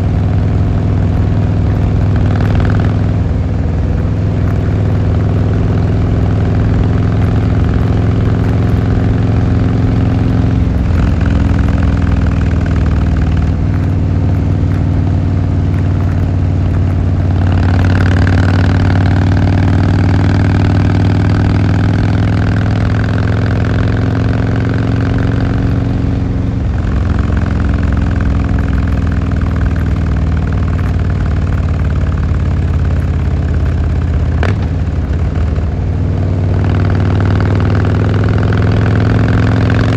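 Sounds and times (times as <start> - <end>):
motorcycle engine and exhaust running: 0.0 - 39.9.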